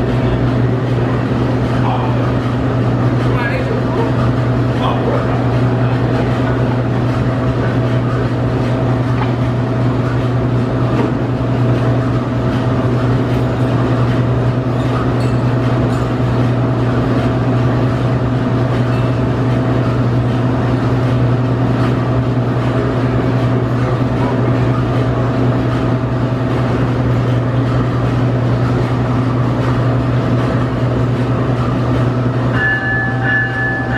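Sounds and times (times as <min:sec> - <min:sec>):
diesel locomotive engine idling: 0:00.0 - 0:33.9.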